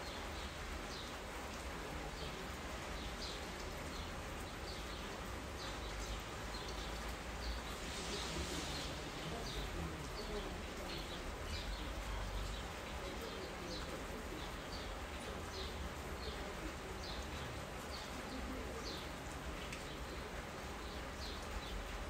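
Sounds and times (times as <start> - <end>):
rain hiss: 0.0 - 22.0.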